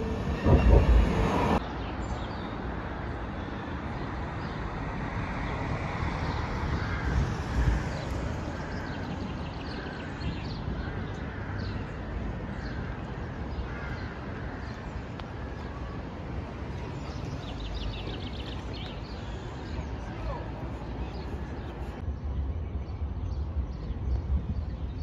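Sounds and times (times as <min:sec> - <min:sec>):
road traffic rumble: 0:00.0 - 0:22.1.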